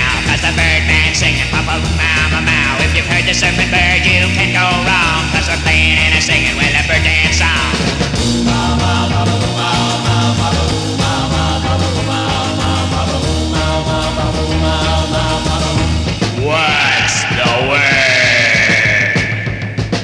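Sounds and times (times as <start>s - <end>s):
moving bass line: 0.0s - 18.8s
rock and roll band playing: 0.0s - 20.0s.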